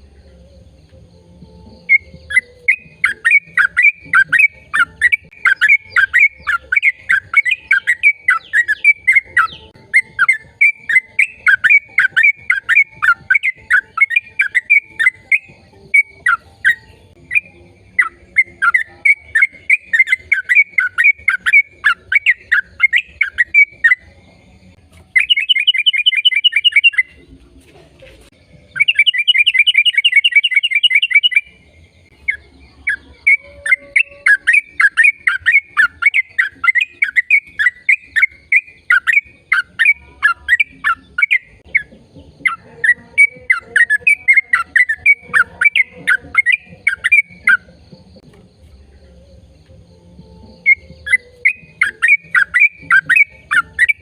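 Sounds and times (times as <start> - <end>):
bird chirping and trilling: 1.4 - 27.4, 28.5 - 48.3, 49.9 - 54.0.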